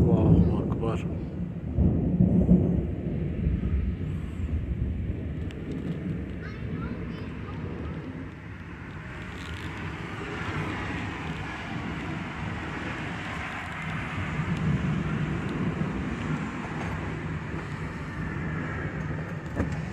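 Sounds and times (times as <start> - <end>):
road traffic noise: 3.1 - 19.9.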